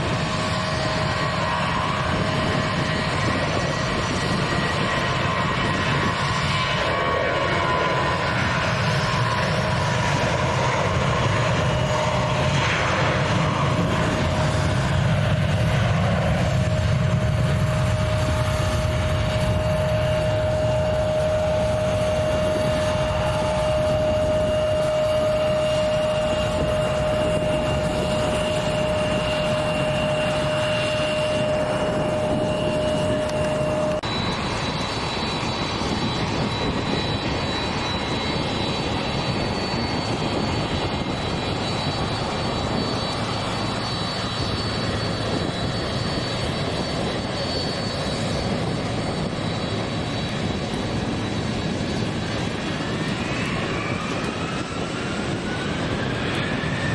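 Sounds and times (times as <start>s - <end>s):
jet engines rumbling and whining: 0.0s - 56.9s.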